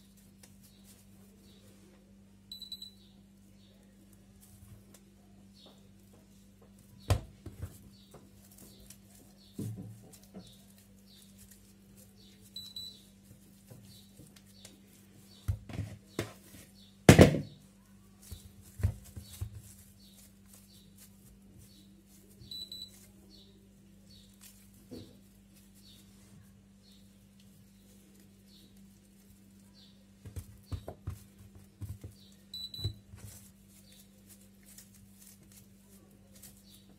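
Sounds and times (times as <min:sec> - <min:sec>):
hands squeezing dough: 0:00.0 - 0:36.9.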